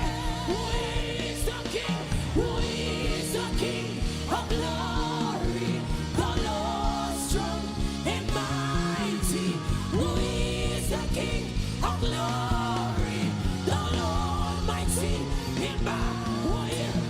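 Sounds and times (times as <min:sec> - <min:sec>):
bass: 0:00.0 - 0:17.0.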